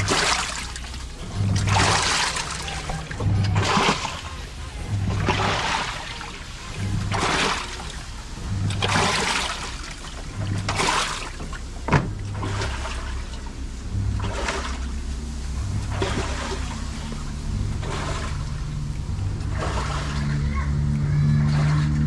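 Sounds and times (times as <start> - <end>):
washing machine motor hum: 0.0 - 22.0
washing machine swishing water: 0.0 - 22.0.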